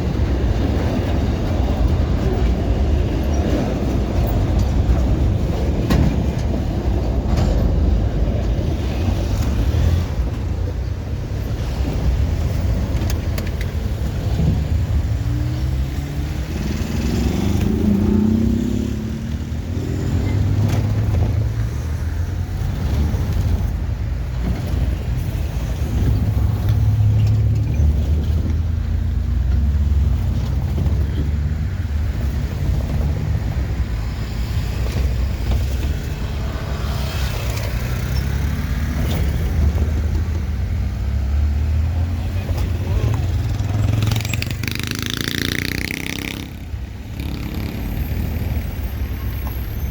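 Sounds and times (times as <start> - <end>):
train rumbling past: 0.0 - 49.9.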